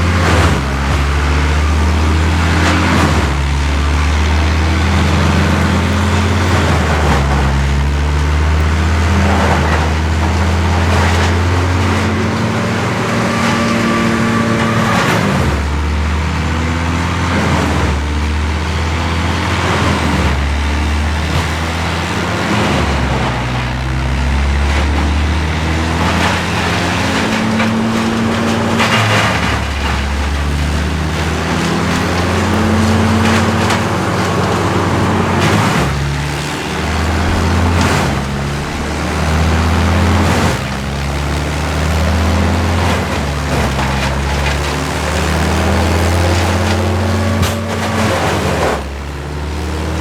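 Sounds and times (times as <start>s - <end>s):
heavy machinery engine running: 0.0s - 50.0s.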